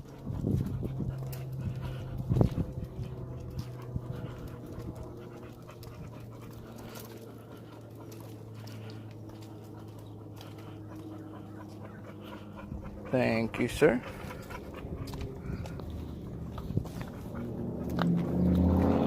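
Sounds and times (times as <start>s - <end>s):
dog panting: 0.0s - 19.0s
steady low hum: 0.0s - 19.0s.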